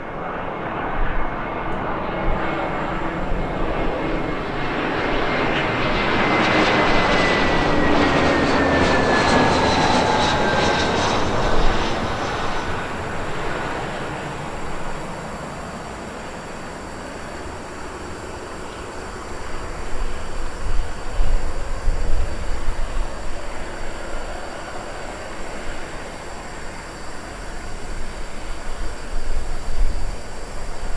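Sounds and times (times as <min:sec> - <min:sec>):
jet airliner flying past: 0:00.0 - 0:30.9.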